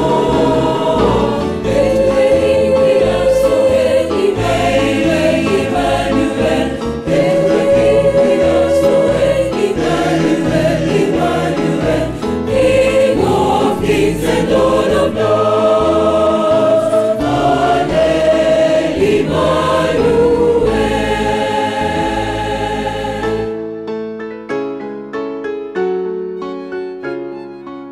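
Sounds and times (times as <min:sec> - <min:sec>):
choir singing gospel song: 0:00.0 - 0:23.6.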